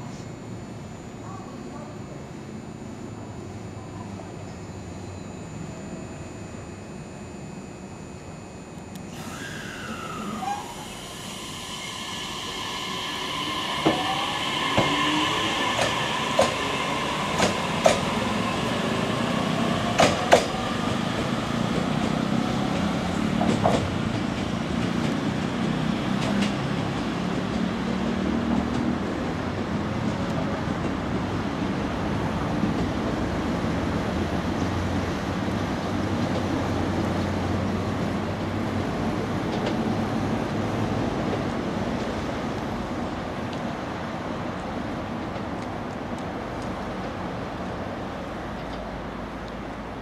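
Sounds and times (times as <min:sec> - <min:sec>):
train rolling rumble: 0:09.1 - 0:50.0.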